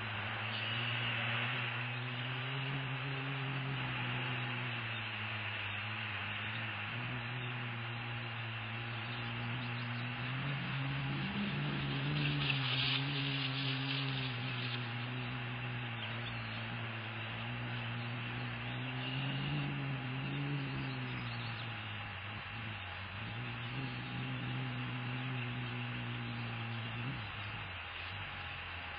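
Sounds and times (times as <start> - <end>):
low hum with hiss: 0.0 - 28.9.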